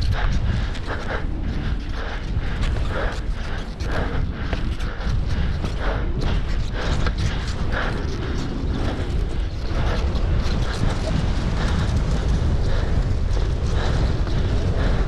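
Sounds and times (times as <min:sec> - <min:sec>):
skis scraping over snow: 0:00.0 - 0:15.0
wind rumbling on microphone: 0:00.0 - 0:15.0.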